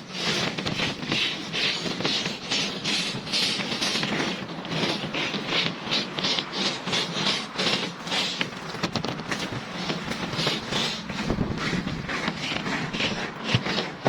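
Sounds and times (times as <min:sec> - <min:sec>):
hand tool scraping: 0:00.0 - 0:14.0.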